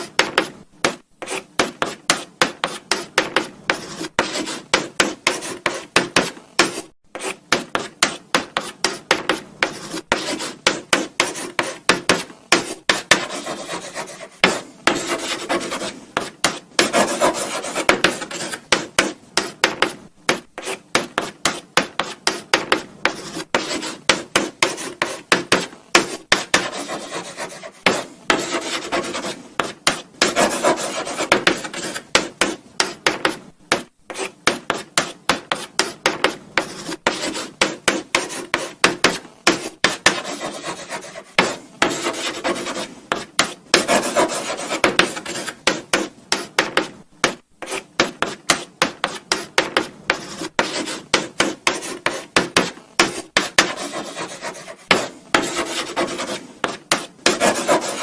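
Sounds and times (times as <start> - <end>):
chalk scratching on a blackboard: 0.0 - 58.0.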